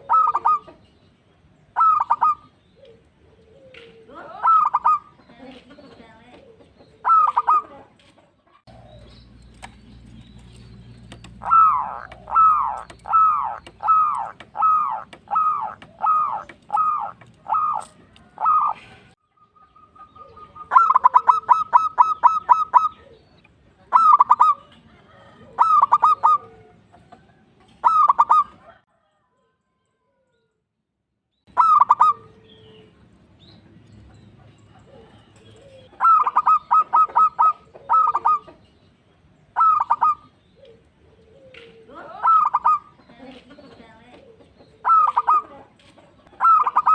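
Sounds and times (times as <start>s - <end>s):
dove cooing song: 0.0s - 29.2s, 31.5s - 46.9s.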